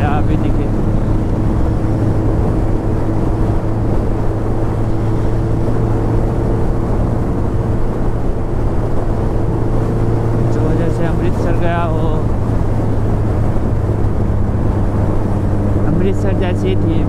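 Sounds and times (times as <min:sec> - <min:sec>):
motorcycle engine cruising: 0:00.0 - 0:17.0
wind rush: 0:00.0 - 0:17.0.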